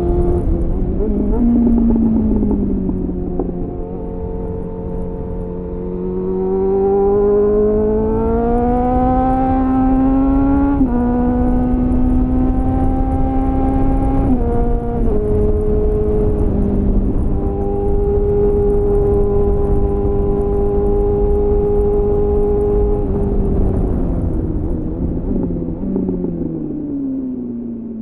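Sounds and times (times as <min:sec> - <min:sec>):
motorcycle engine revving: 0:00.0 - 0:28.0
wind rumble: 0:00.0 - 0:28.0.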